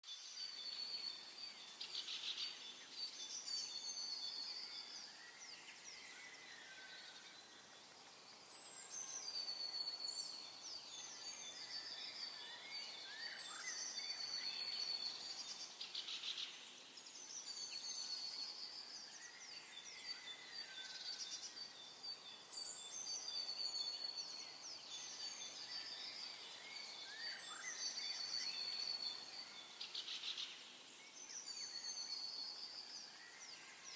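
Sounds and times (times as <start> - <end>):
birds chirping and trilling: 0.1 - 33.9.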